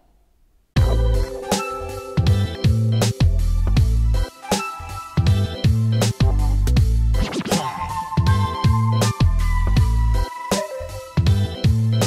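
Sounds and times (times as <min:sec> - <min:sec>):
bass-heavy beat music: 0:00.8 - 0:12.0.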